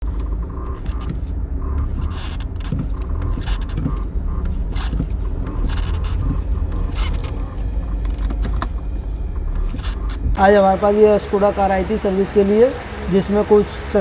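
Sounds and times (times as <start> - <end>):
car low rumble: 0.0 - 14.0
suspension clunking knocks: 0.0 - 14.0.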